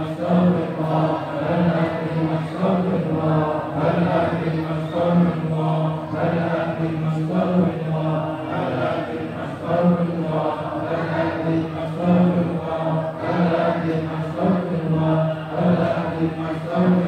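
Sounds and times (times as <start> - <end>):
man leading on a microphone: 0.0 - 17.0
men chanting in unison: 0.0 - 17.0.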